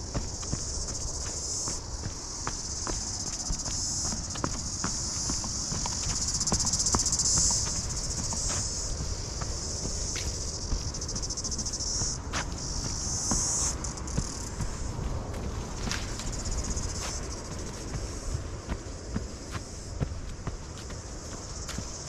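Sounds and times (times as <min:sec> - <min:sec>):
footfalls on dirt trail: 0:00.0 - 0:22.0
insects buzzing chorus: 0:00.0 - 0:22.0.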